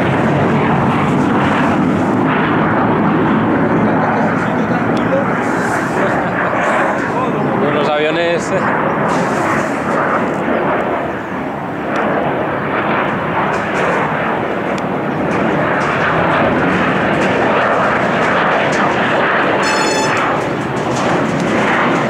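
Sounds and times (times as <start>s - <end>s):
fighter jet flying past: 0.0s - 22.0s.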